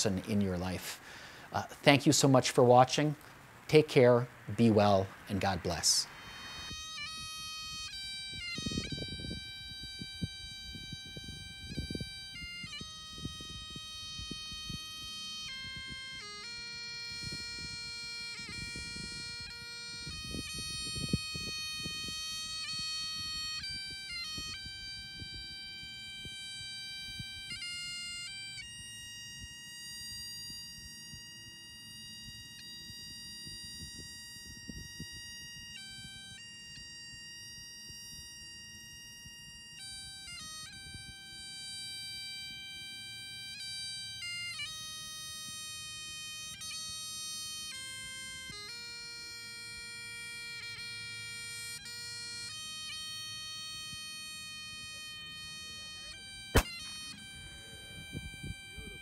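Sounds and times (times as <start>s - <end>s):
slow melody of held notes: 6.2s - 59.0s.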